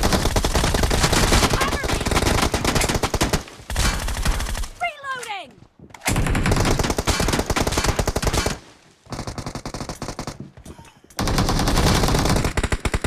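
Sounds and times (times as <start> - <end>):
video game automatic gunfire: 0.0 - 4.8, 6.1 - 10.4, 11.2 - 13.0.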